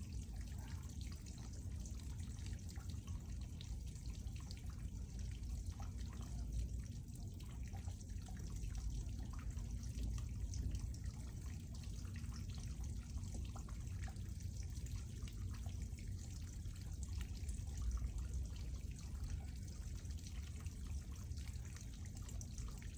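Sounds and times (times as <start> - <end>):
drips and splashes: 0.0 - 22.9
water flowing and trickling: 0.0 - 22.9.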